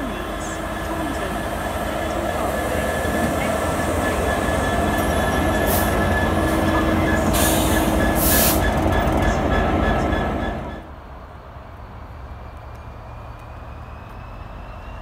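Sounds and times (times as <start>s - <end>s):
diesel locomotive passing: 0.0s - 15.0s.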